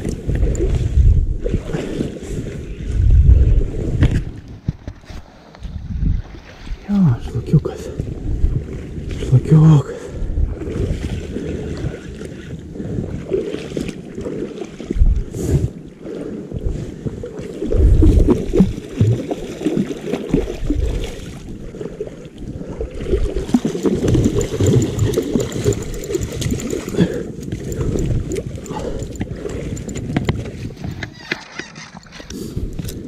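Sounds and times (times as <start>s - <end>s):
river water: 0.0s - 33.0s
rumbling wind: 0.0s - 33.0s.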